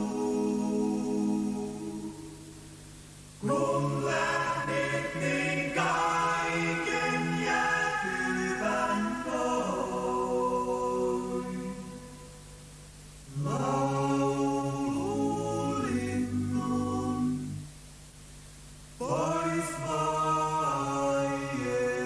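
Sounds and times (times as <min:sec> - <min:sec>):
unaccompanied voices singing: 0:00.0 - 0:02.5, 0:03.4 - 0:12.4, 0:13.3 - 0:17.7, 0:19.0 - 0:22.0.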